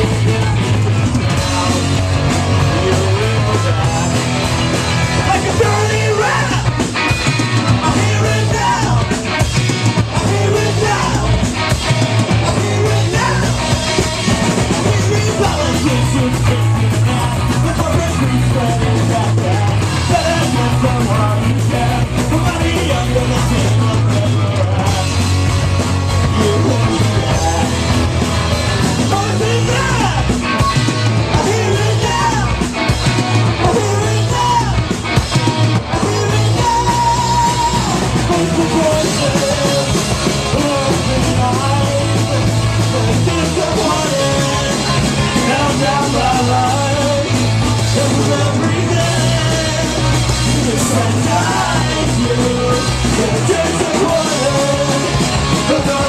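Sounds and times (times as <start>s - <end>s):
electric guitar: 0.0s - 56.0s
live rock band playing: 0.0s - 56.0s
person singing and yelling: 0.0s - 56.0s.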